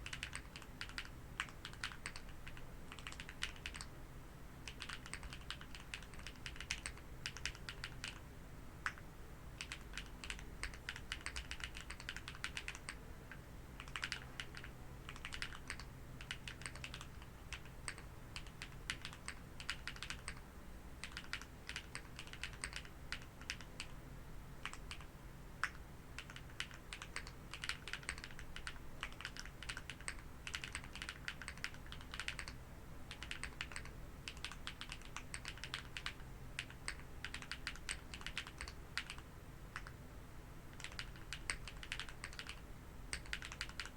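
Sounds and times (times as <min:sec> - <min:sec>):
mechanical keyboard typing: 0:00.0 - 0:03.9, 0:04.6 - 0:08.2, 0:09.6 - 0:13.0, 0:13.8 - 0:20.4, 0:21.0 - 0:23.9, 0:24.6 - 0:40.0, 0:40.7 - 0:43.9.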